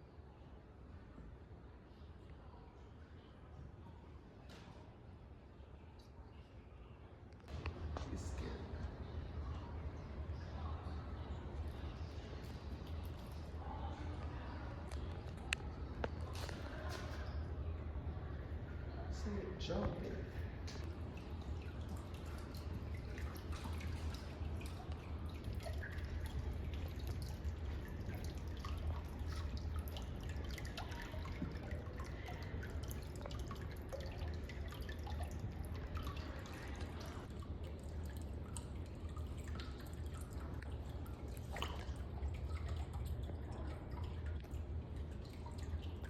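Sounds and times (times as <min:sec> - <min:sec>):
low constant hum: 0:00.0 - 0:46.0
water dripping and trickling: 0:05.4 - 0:46.0.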